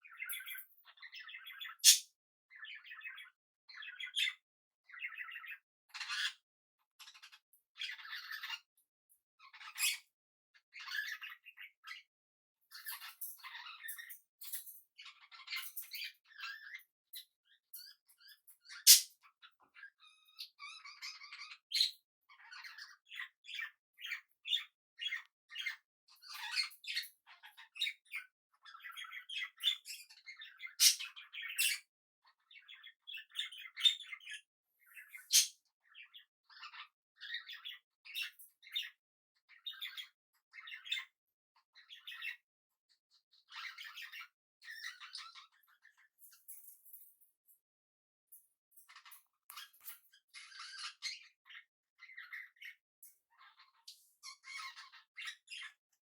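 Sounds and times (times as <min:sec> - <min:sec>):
budgerigars chirping and chattering: 0:00.0 - 0:06.4, 0:07.0 - 0:08.7, 0:09.4 - 0:10.1, 0:10.7 - 0:12.0, 0:12.7 - 0:41.1, 0:41.8 - 0:42.4, 0:43.4 - 0:47.0, 0:48.9 - 0:55.8.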